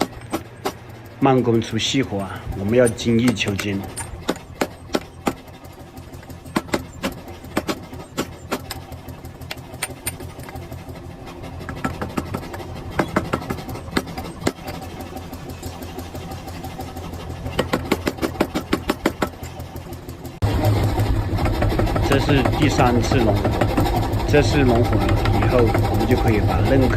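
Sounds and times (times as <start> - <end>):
low motor hum: 0.0 - 26.9.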